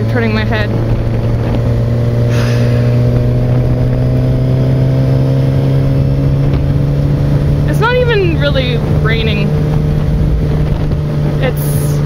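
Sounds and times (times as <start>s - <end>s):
motorcycle engine cruising: 0.0s - 12.0s
wind rushing: 0.0s - 12.0s.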